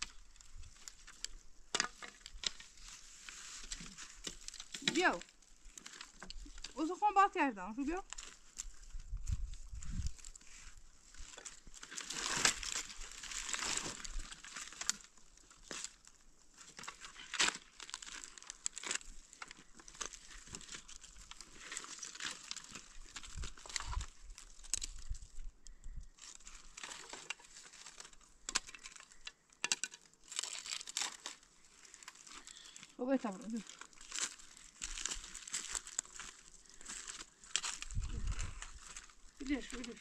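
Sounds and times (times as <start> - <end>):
crunches on stony ground: 0.0 - 7.0, 7.7 - 40.0
firewood sticks rustling and crackling: 0.0 - 40.0.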